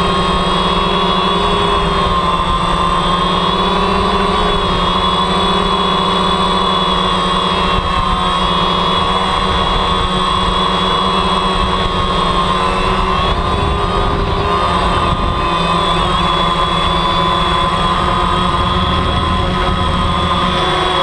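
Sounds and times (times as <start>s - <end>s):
drone propellers whirring: 0.0s - 21.0s.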